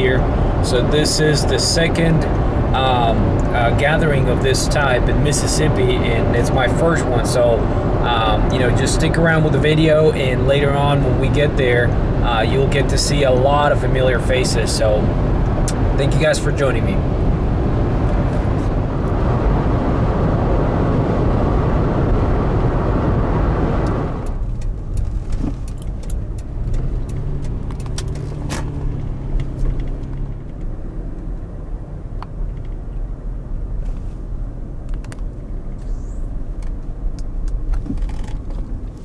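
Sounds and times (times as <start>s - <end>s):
car cabin road and engine noise: 0.0s - 39.0s.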